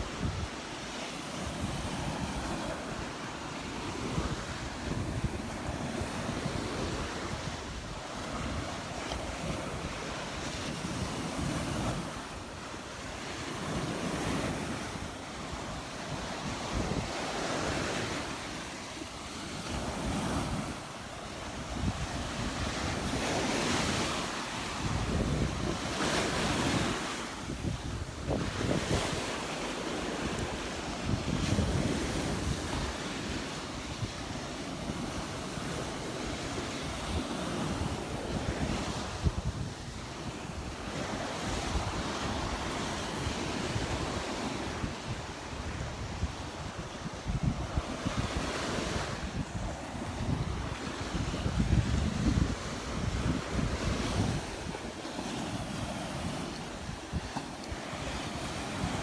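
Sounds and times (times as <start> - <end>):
surf breaking on beach: 0.0 - 59.0
wind buffeting microphone: 0.0 - 59.0.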